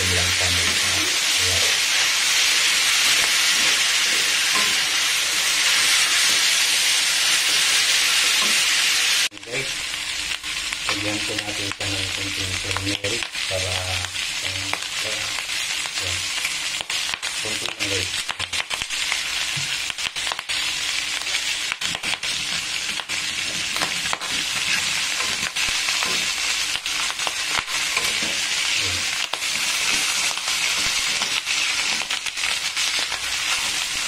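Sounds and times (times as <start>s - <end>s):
sizzling in hot oil: 0.0s - 34.0s.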